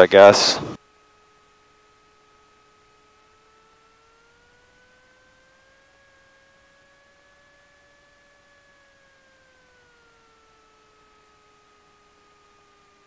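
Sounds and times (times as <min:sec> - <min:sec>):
faint two-tone electrical whine: 0:00.0 - 0:13.0.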